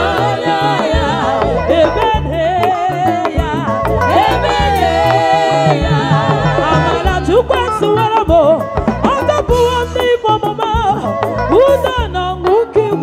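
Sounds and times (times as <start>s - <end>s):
repeating bass line: 0.0s - 12.3s
drums: 0.0s - 13.0s
women singing with vibrato: 0.0s - 13.0s.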